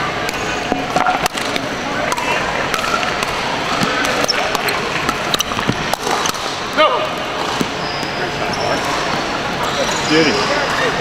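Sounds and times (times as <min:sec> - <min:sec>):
background chatter: 0:00.0 - 0:11.0.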